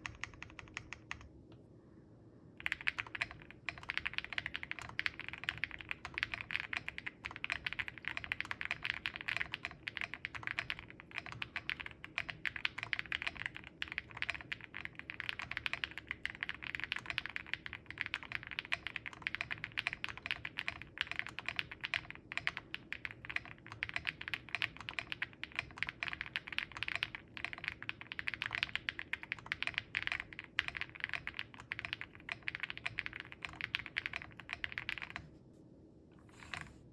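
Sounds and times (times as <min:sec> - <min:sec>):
mechanical keyboard typing: 0:00.0 - 0:01.3, 0:02.6 - 0:35.3.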